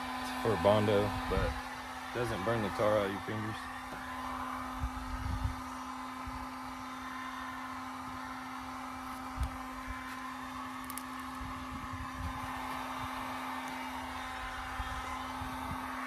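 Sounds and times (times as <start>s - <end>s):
heat gun fan humming: 0.0s - 16.0s.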